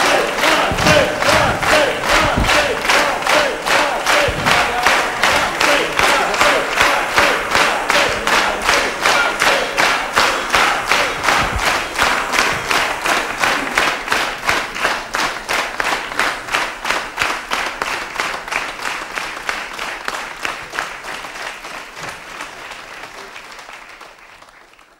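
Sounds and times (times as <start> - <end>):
audience clapping rhythmically: 0.0 - 24.9.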